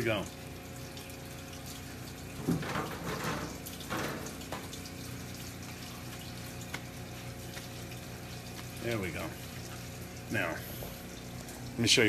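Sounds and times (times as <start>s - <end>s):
small water pump hum: 0.0s - 12.0s
water running into sink: 0.0s - 12.0s.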